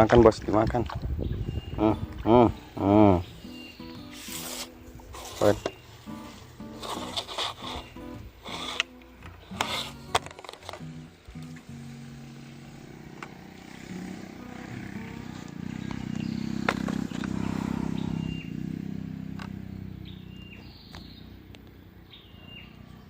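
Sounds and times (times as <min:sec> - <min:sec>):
small engine passing by: 0:01.1 - 0:10.2, 0:10.8 - 0:23.0.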